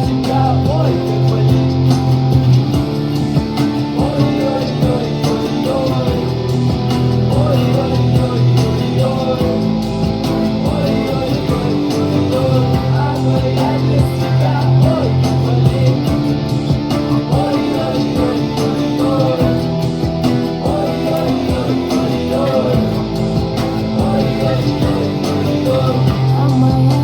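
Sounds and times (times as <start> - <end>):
guitar strumming: 0.0 - 27.0
sustained instrumental backing: 0.0 - 27.0.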